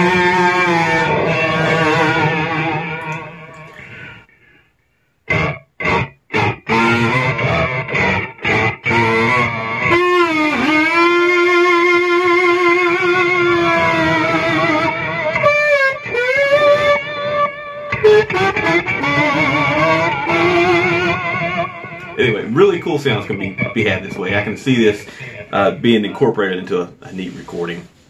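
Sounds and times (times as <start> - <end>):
distorted kazoo notes: 0.0 - 26.4.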